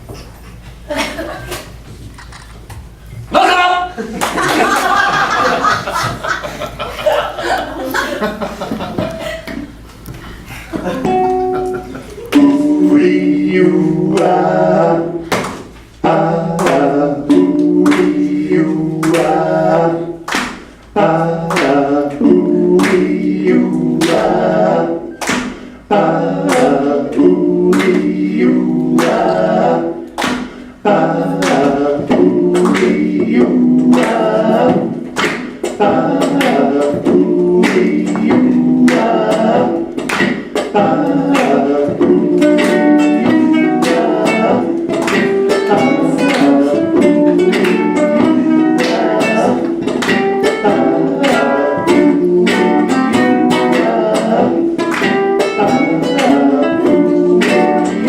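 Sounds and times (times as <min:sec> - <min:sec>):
voices singing in harmony: 0:04.0 - 0:09.8, 0:10.8 - 0:58.0
sharp steady beat: 0:10.9 - 0:58.0.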